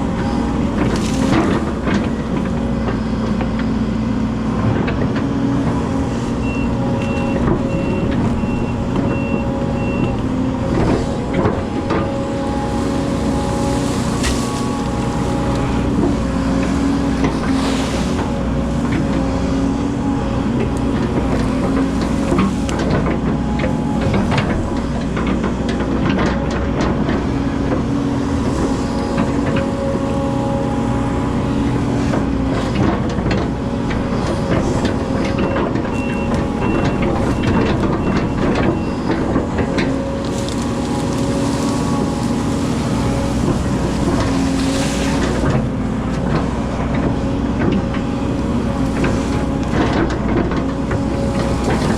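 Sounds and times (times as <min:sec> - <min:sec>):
diesel excavator engine running: 0:00.0 - 0:51.9.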